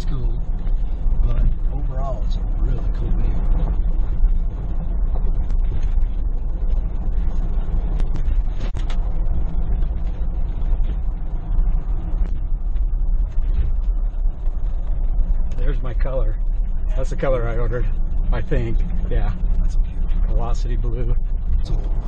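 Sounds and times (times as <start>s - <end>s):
low rumble of tyres and drivetrain: 0.0s - 22.0s.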